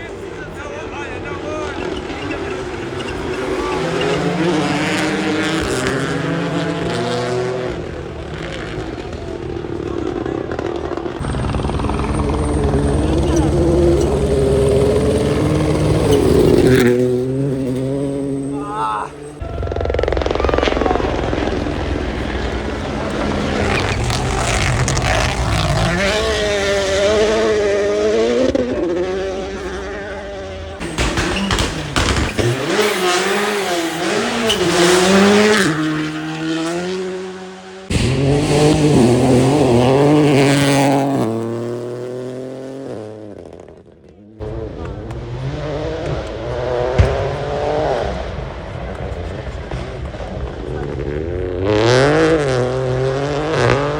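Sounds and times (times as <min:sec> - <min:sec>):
rally cars passing at speed: 0:00.0 - 0:53.9.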